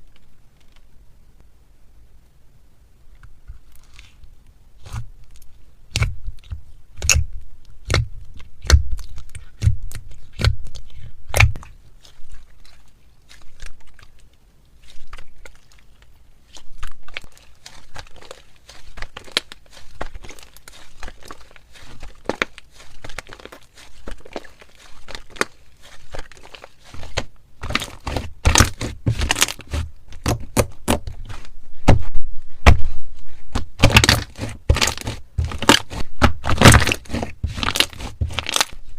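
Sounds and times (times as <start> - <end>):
slime and ice crackling when squeezed: 4.8 - 32.0, 33.6 - 38.9.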